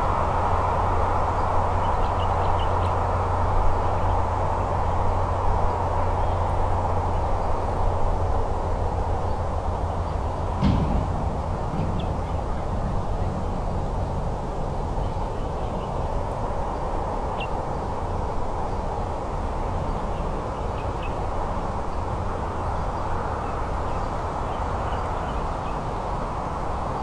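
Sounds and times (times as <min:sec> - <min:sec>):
heavy low wind: 0:00.0 - 0:27.0.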